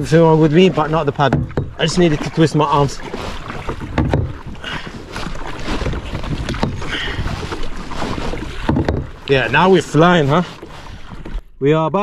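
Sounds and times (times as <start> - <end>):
paddle splashing in water: 0.0 - 11.5.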